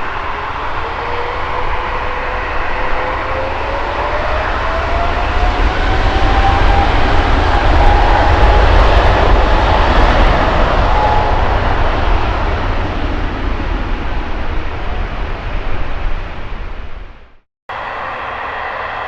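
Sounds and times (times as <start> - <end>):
jet engine rising whine: 0.0 - 16.6, 17.7 - 19.0
jet engines deep rumble: 0.0 - 19.0.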